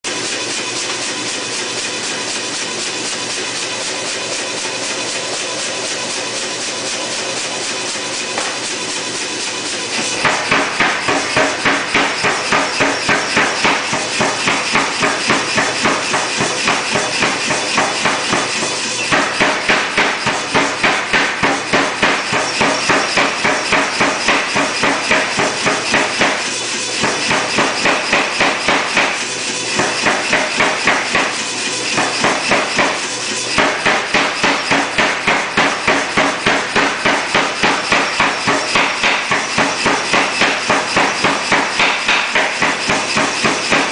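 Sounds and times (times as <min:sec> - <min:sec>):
machine running hum: 0:00.0 - 0:43.9
power hammer striking metal: 0:00.1 - 0:43.9.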